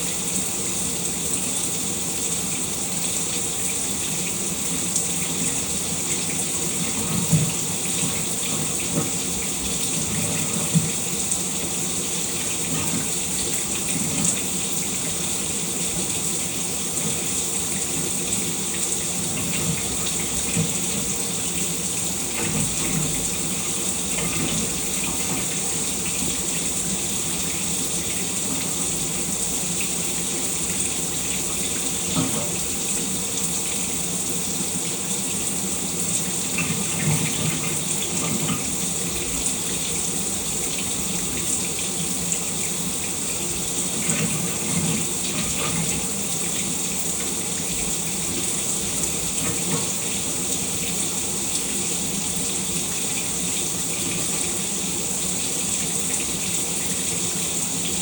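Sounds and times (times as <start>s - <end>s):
shower water splashing: 0.0s - 58.0s.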